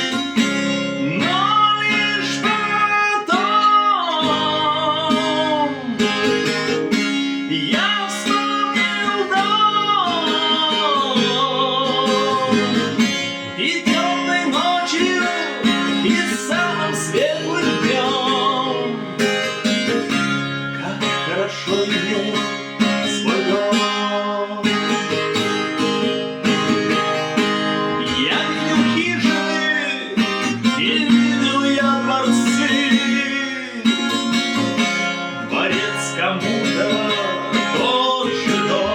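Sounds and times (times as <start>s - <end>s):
strummed acoustic guitar: 0.0s - 38.9s.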